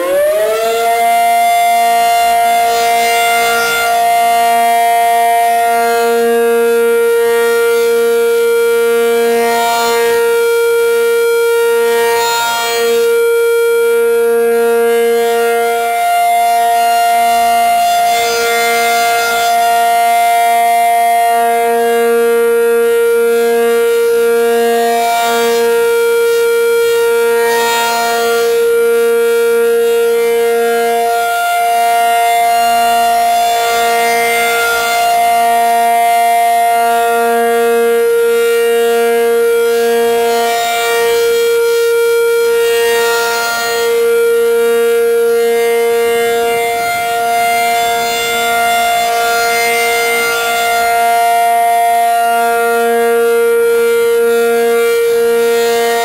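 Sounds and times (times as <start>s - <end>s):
rotating siren two-note tone: 0.0s - 56.0s.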